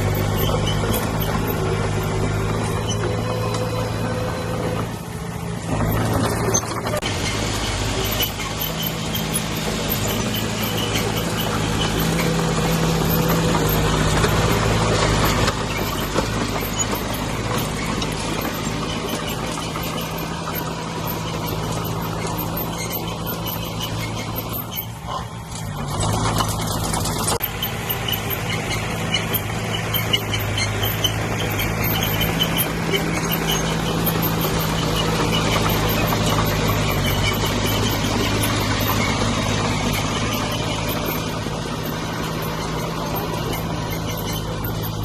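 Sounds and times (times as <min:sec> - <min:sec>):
heavy diesel engine running: 0:00.0 - 0:45.0
machinery clatter: 0:00.0 - 0:45.0.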